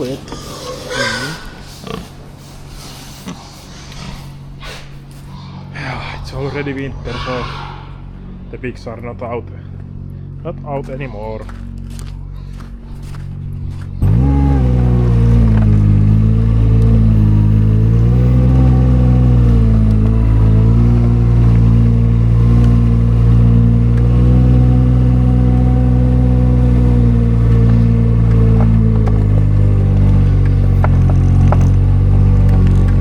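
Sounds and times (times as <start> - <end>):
loader engine revving: 0.0 - 33.0.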